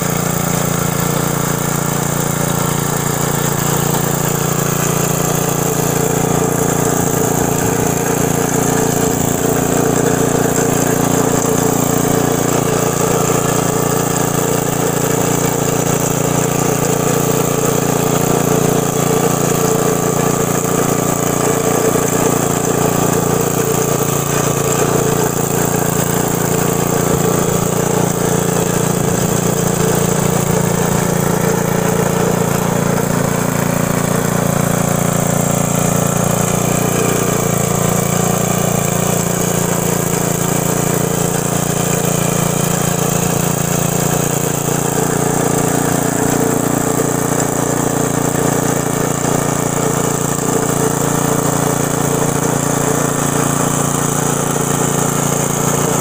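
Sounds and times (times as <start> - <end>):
small gas engine running: 0.0 - 56.0
tines churning soil: 0.0 - 56.0.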